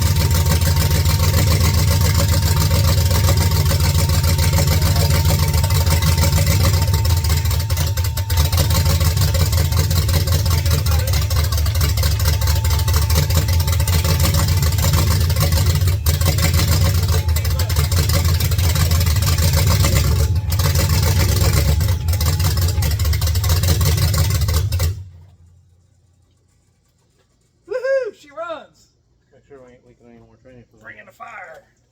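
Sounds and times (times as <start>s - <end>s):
engine idling: 0.0s - 27.8s.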